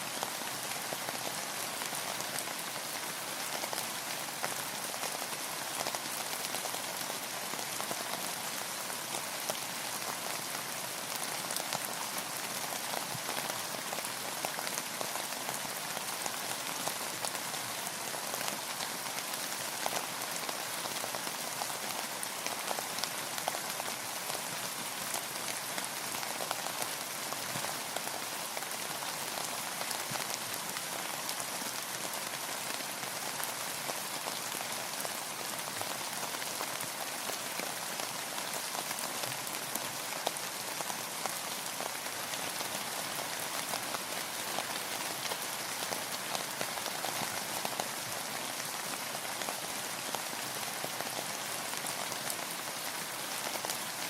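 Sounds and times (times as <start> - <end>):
hiss of rain: 0.0 - 54.0.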